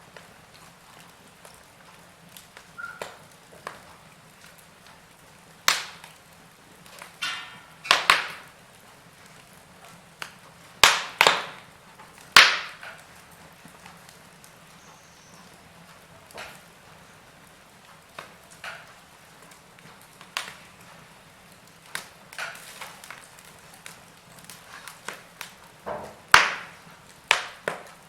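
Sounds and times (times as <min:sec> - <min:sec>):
fire hissing: 0:00.0 - 0:28.0
wood fire crackling and popping: 0:00.0 - 0:28.0.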